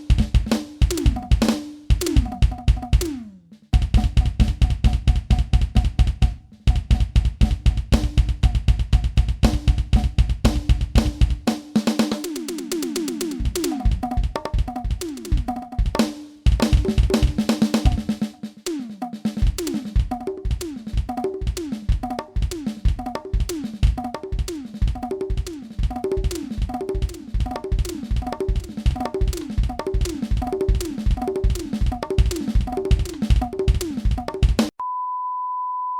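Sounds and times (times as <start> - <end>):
electronic drum kit groove: 0.0 - 34.8.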